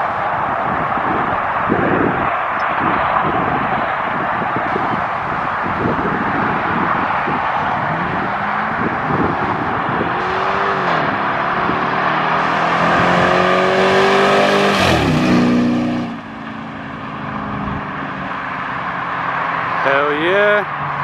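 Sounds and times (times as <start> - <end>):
cars racing under hard acceleration: 0.0 - 21.0.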